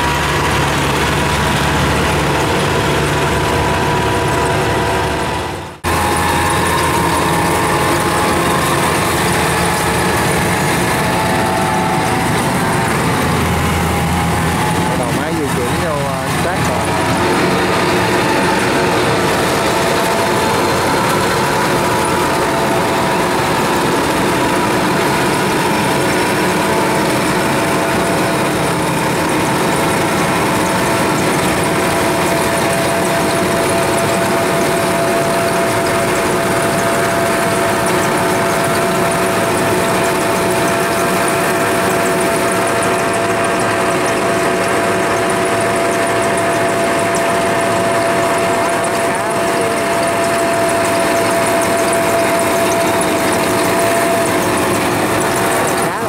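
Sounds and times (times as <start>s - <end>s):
diesel engine running: 0.0s - 56.0s
machine whine: 0.0s - 56.0s.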